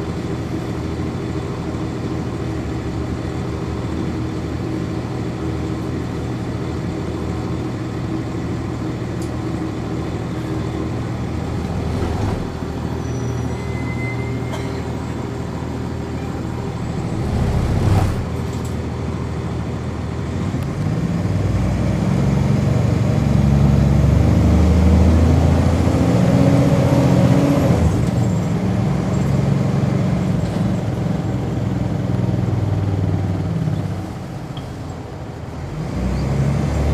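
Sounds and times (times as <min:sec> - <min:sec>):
bus diesel engine: 0:00.0 - 0:36.9.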